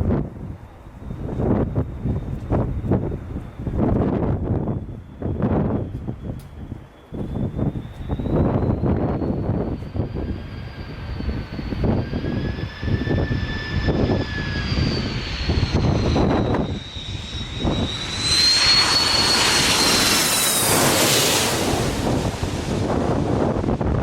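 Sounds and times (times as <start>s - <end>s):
jet engine whine: 0.0s - 24.0s
jet rush of passing aircraft: 0.0s - 24.0s
wind gusts on microphone: 0.0s - 24.0s.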